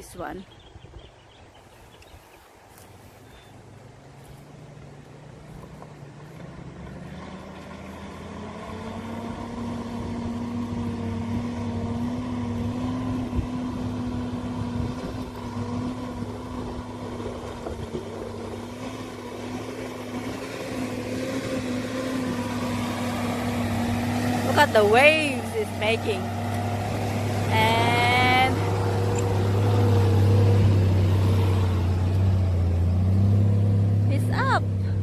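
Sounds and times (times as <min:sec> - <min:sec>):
vehicle engine driving through water: 0:02.6 - 0:35.0.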